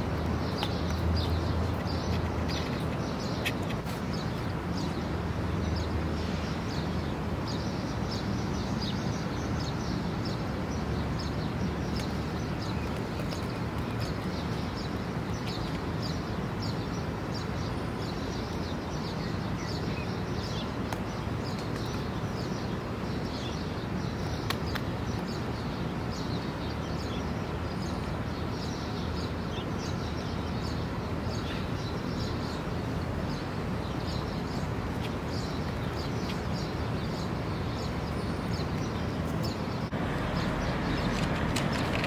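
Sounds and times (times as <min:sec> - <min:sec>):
low hum of street noise: 0:00.0 - 0:42.0
small birds chirping: 0:00.0 - 0:42.0.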